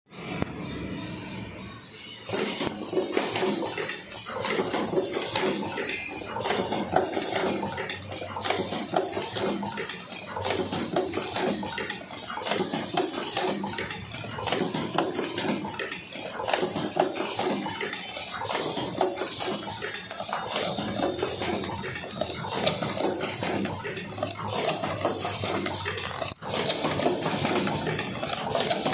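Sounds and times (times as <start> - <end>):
cartoning machine clattering: 2.3 - 28.9.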